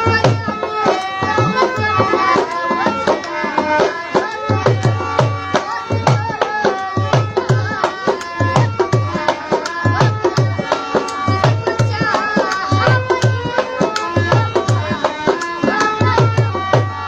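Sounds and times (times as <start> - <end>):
music with tabla and drums: 0.0 - 17.0.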